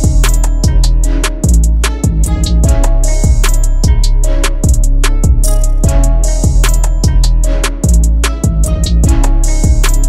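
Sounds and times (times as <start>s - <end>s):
drum beat: 0.0s - 10.0s.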